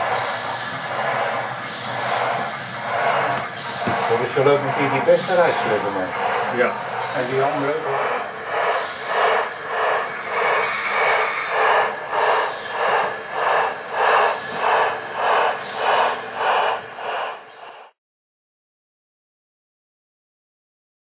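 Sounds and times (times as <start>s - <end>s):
model steam locomotive chuffing: 0.0s - 18.0s.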